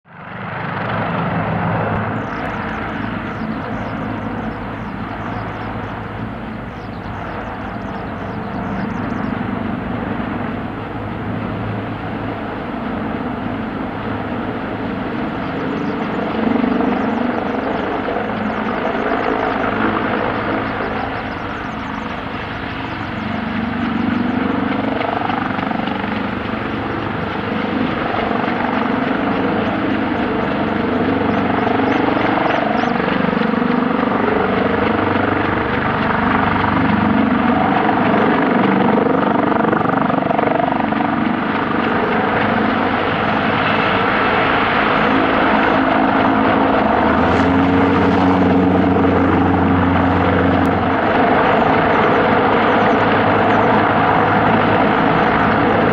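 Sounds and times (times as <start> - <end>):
helicopter engines and rotor: 0.1 - 55.9.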